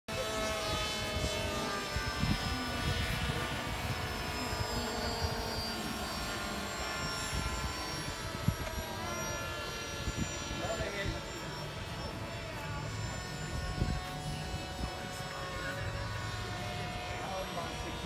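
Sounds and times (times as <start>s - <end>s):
rc plane motors whining: 0.1s - 18.0s
wind rumble on microphone: 0.1s - 18.0s.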